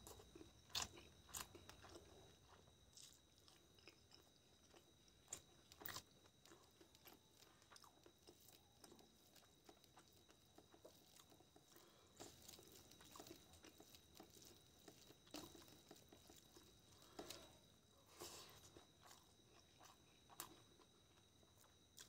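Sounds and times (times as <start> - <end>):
wet squishing of mixing food: 0.0 - 22.0.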